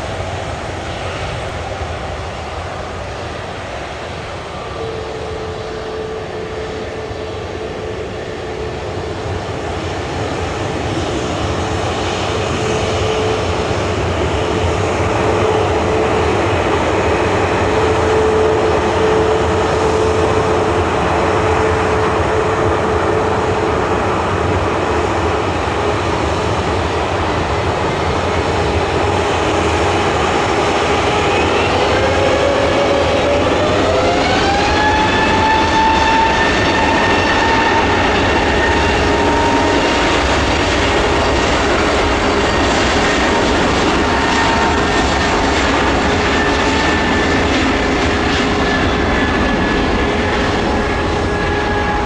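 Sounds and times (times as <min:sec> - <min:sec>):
jet engines whining: 0:00.0 - 0:52.0.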